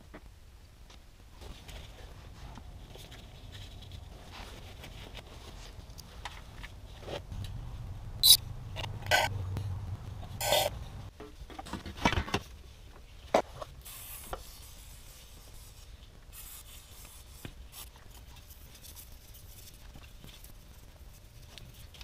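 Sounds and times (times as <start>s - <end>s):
gloved hands rubbing and scraping: 1.4s - 9.4s, 10.1s - 11.1s, 13.4s - 22.0s.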